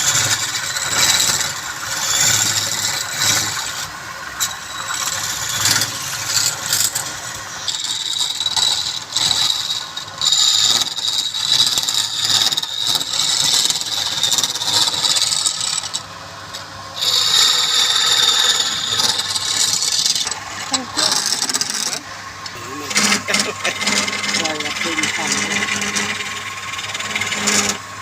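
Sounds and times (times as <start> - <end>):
lathe tool scraping wood: 0.0 - 16.2, 16.9 - 28.0.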